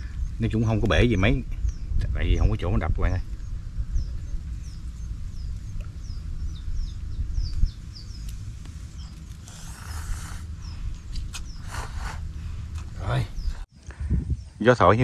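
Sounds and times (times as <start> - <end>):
rustle: 0.0 - 14.0
small bird chirping: 0.0 - 15.0
wind rumble on microphone: 0.0 - 15.0.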